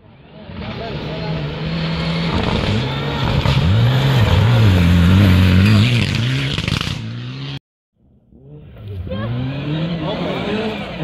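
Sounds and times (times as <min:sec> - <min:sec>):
rally car engine revving: 0:00.1 - 0:07.6, 0:08.3 - 0:11.0.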